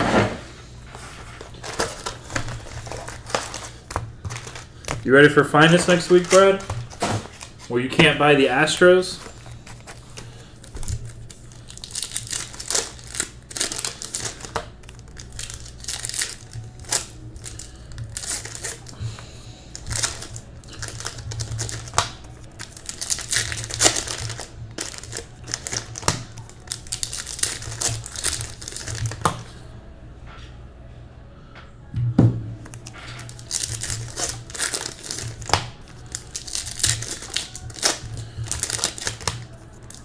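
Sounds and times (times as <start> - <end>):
low steady hum: 0.0 - 40.0
card pack wrappers crinkling and tearing: 0.9 - 29.7, 32.6 - 40.0.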